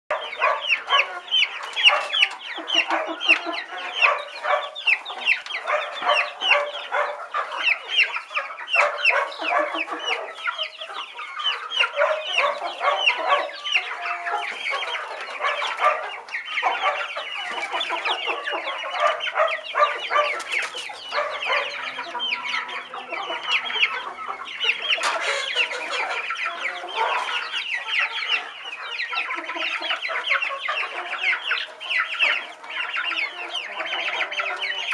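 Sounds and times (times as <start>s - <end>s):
young chickens peeping: 0.1s - 34.9s.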